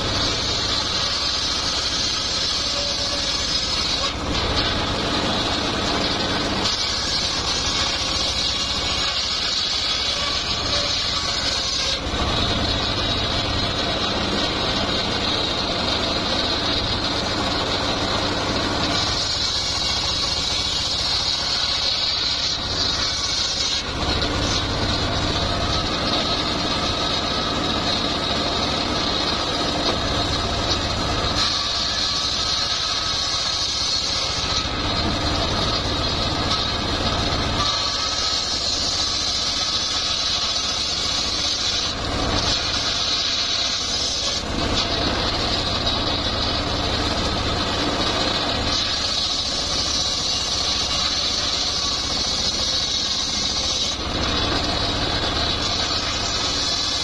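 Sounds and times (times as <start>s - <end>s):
circular saw cutting log: 0.0s - 57.0s.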